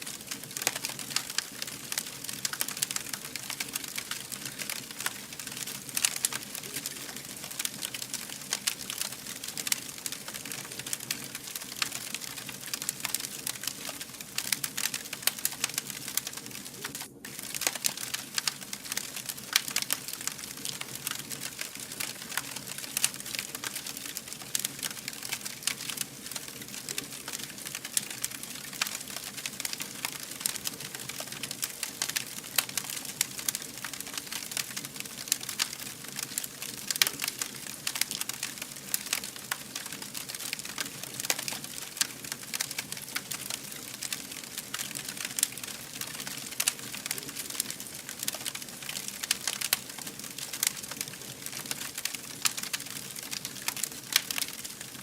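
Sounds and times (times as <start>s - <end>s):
fire crackling: 0.0s - 55.0s
low steady rush of fire: 0.0s - 55.0s.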